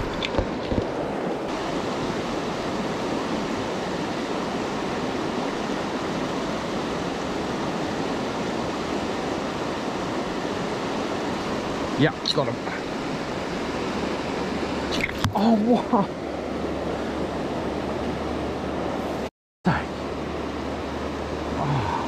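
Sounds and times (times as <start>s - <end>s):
river water rushing over stones: 0.0s - 22.0s.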